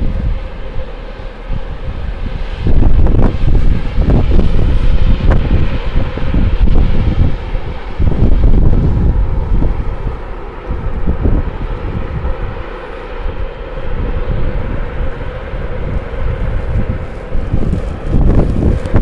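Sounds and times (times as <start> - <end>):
steady engine-like hum: 0.0 - 19.0
wind gusting against microphone: 0.0 - 19.0.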